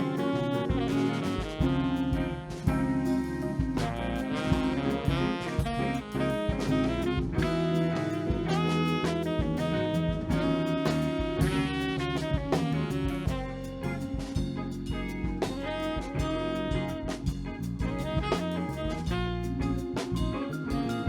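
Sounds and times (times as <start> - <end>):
bass guitar: 0.0 - 21.0
drum kit beat: 0.0 - 21.0
piano: 0.0 - 21.0
saxophone: 0.0 - 21.0.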